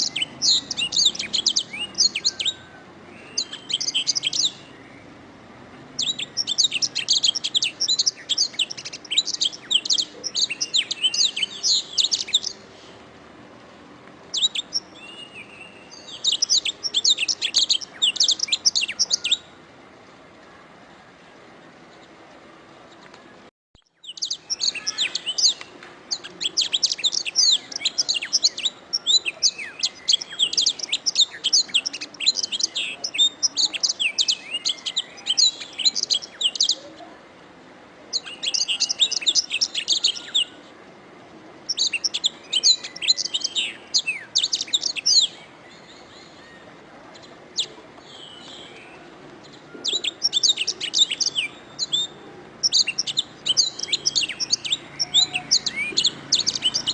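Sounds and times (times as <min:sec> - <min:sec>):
canary singing trills: 0:00.0 - 0:05.2, 0:06.0 - 0:12.8, 0:14.3 - 0:19.6, 0:23.8 - 0:37.0, 0:38.1 - 0:40.6, 0:41.6 - 0:56.9.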